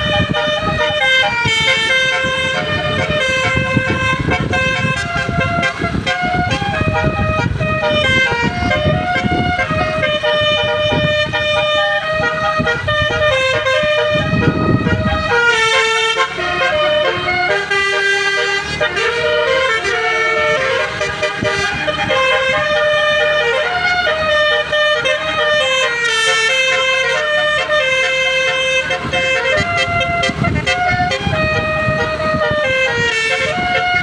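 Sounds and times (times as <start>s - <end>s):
musical bus horn melody: 0.0s - 34.0s.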